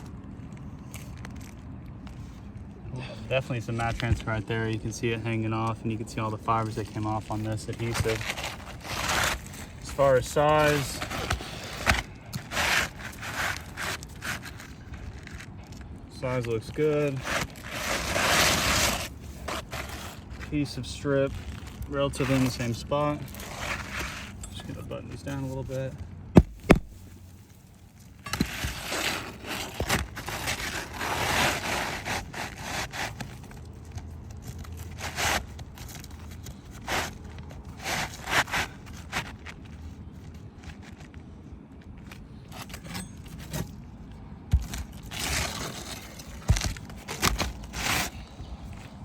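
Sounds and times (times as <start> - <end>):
shingles scraping and rustling: 6.1 - 43.9, 44.5 - 49.0.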